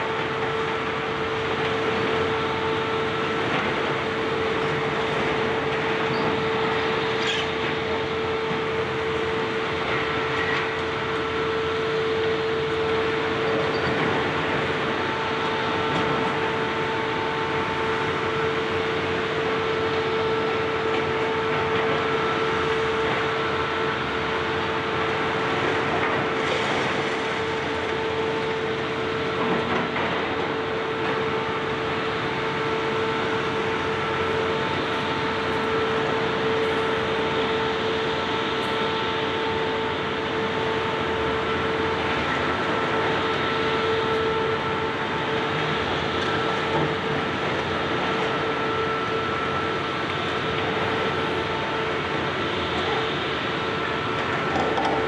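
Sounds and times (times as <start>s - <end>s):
demolition excavator running: 0.0s - 55.0s.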